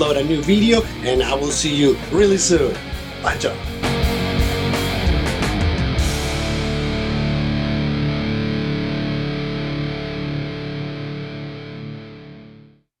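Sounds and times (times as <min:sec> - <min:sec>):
distorted electric guitar chord: 0:01.4 - 0:12.8.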